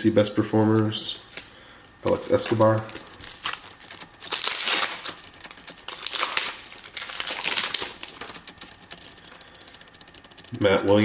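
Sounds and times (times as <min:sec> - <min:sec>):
foil wrapper crinkling: 0:01.2 - 0:11.0.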